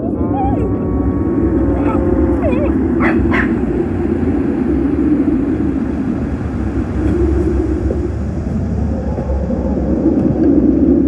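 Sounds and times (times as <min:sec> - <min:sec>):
low rumbling roar: 0:00.0 - 0:11.0.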